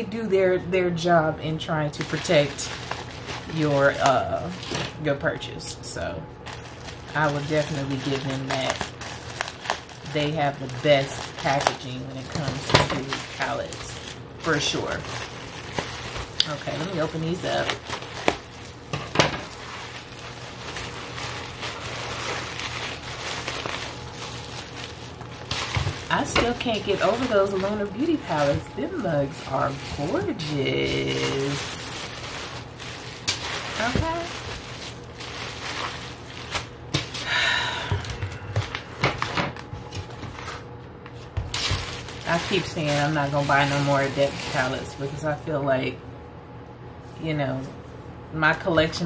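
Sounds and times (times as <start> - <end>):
bubble wrap rustling: 0.0 - 45.6.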